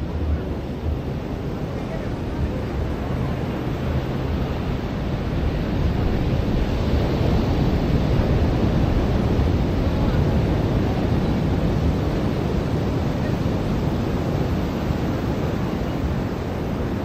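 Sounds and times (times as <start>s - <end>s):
ocean surf washing onto beach: 0.0s - 17.0s
wind buffeting microphone: 0.0s - 17.0s.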